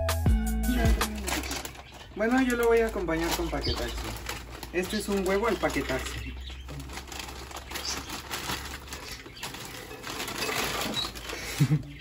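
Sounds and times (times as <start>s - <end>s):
plastic snack bag crinkling: 0.7s - 12.0s.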